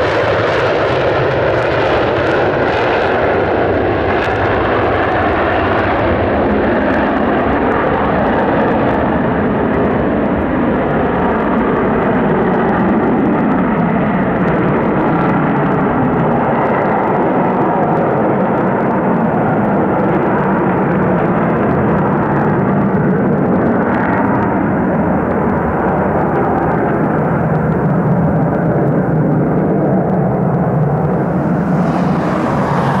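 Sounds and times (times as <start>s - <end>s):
jet engines roaring at takeoff: 0.0s - 33.0s.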